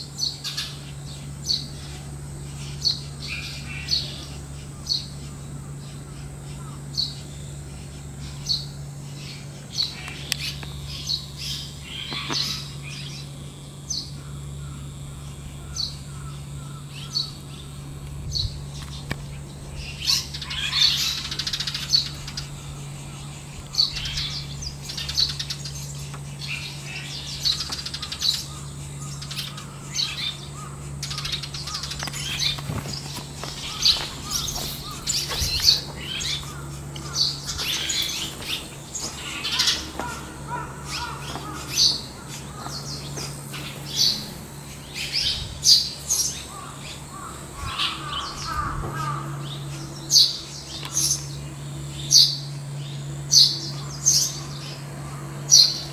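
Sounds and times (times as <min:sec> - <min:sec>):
steady low hum: 0:00.0 - 0:55.9
swallows chirping: 0:00.0 - 0:55.9.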